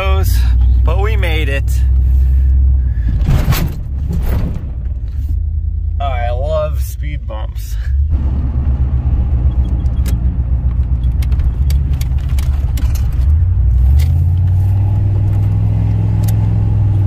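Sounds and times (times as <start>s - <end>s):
car engine from inside cabin: 0.0s - 3.1s, 4.6s - 17.0s
road rumble: 0.0s - 17.0s.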